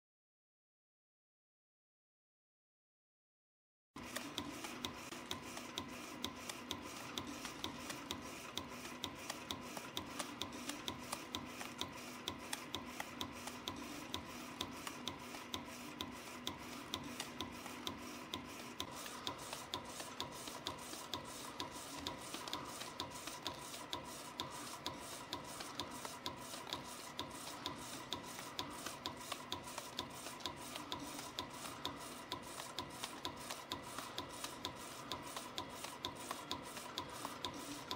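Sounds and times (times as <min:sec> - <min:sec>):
machine clicking: 0:04.0 - 0:37.9.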